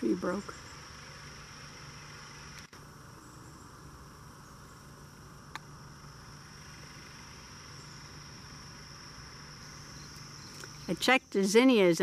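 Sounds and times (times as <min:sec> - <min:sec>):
high-pitched insect chorus: 0:00.0 - 0:12.0
low steady hum: 0:00.0 - 0:12.0.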